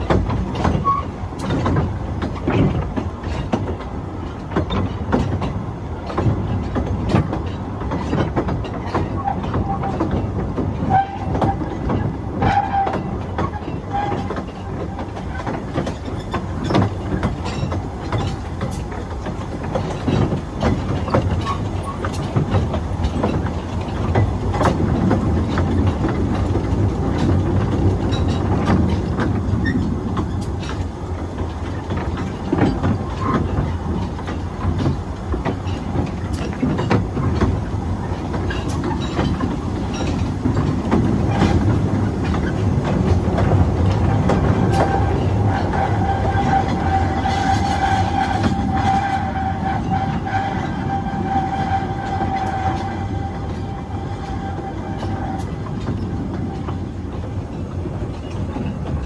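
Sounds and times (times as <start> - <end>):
clicks over rail joints: 0.0 - 59.0
train wheels rumbling on track: 0.0 - 59.0.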